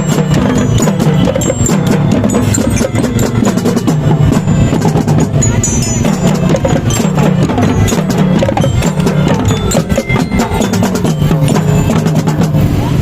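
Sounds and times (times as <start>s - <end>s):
marching band playing: 0.0s - 13.0s
rapid drum line: 0.0s - 13.0s.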